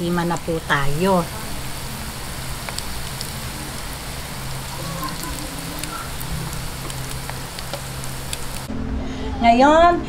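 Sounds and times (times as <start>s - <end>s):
food deep-frying in oil: 0.0s - 8.7s
oil popping and crackling: 0.2s - 8.7s.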